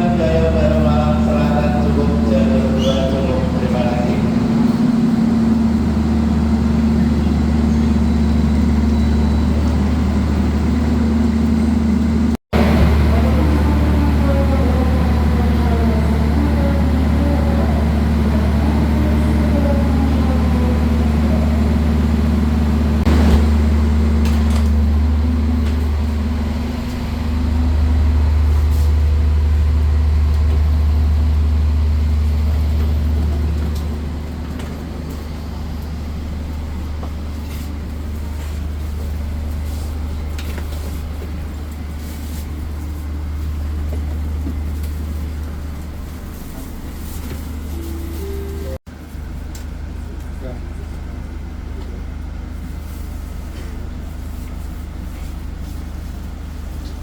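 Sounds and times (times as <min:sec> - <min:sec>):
diesel locomotive idling: 0:00.0 - 0:57.0.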